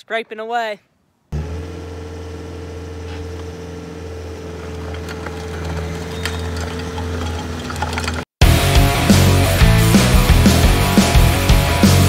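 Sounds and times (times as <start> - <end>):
diesel engine running: 1.4 - 12.0.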